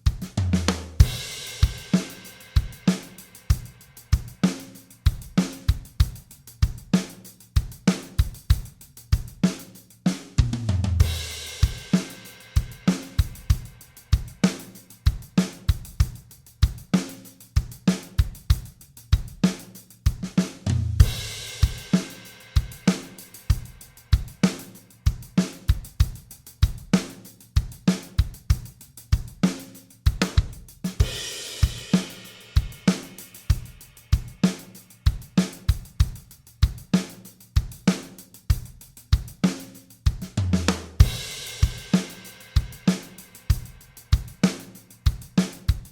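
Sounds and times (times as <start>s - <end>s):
drum kit beat: 0.0s - 45.9s.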